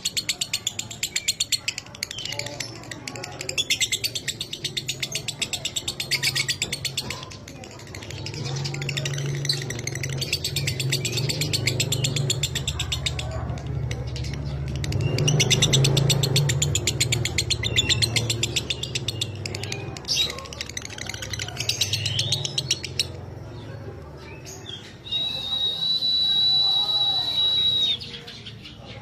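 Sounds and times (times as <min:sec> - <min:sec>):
high-pitched bird chattering trills: 0:00.0 - 0:29.0.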